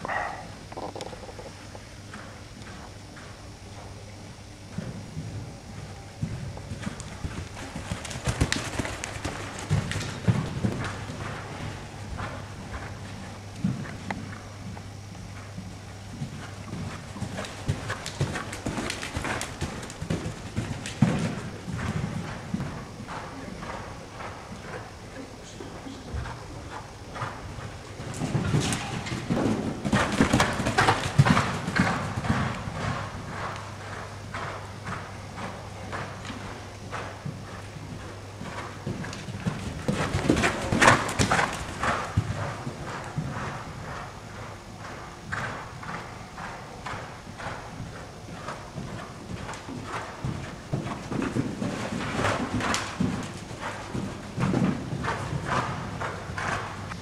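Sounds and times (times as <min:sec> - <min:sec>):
horse hooves cantering on sand: 0:02.0 - 0:04.0, 0:04.6 - 0:57.0.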